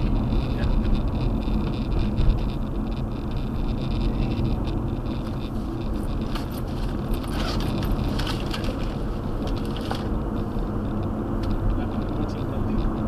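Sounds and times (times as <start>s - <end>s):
car road and engine rumble: 0.0s - 13.0s
light rattling: 0.0s - 13.0s.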